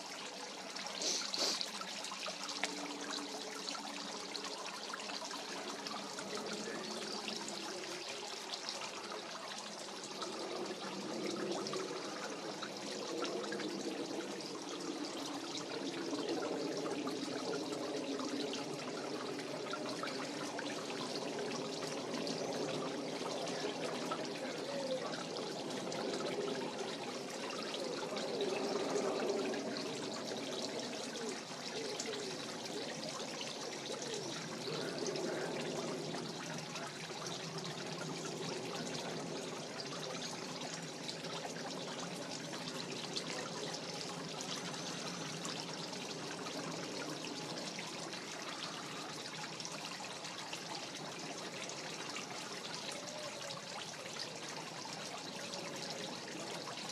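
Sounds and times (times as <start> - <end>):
running water trickling: 0.0 - 56.9.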